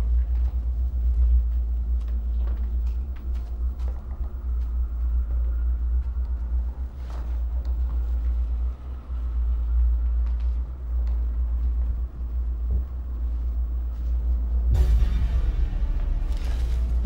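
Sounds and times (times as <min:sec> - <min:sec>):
deep low rumble: 0:00.0 - 0:17.0.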